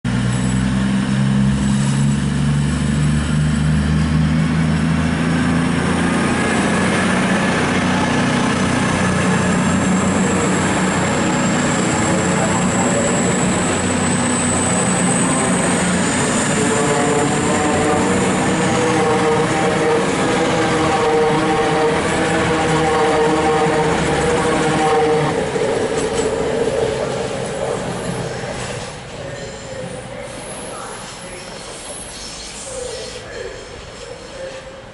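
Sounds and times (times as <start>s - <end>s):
diesel train engines droning: 0.1s - 34.9s.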